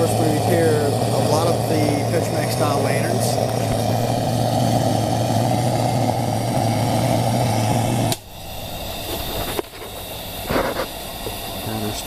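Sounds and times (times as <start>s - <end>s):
low hum: 0.0s - 11.9s
lantern burner roaring: 0.0s - 12.0s
lantern hissing: 0.0s - 12.0s.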